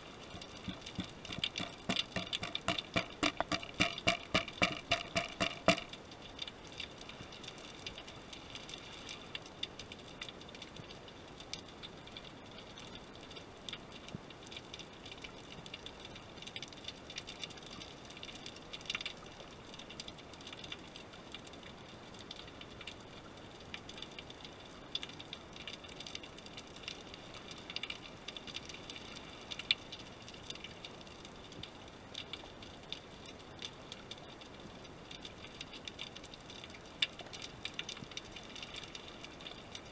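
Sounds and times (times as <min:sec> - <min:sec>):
sharp underwater clicks and crackles: 0:00.0 - 0:39.9.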